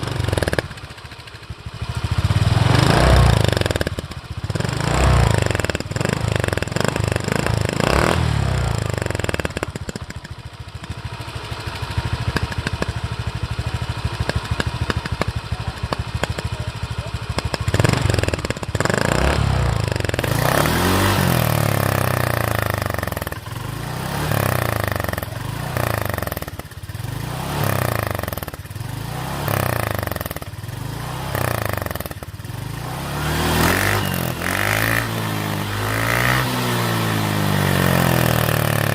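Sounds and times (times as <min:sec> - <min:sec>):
motorcycle idling and revving: 0:00.0 - 0:38.9.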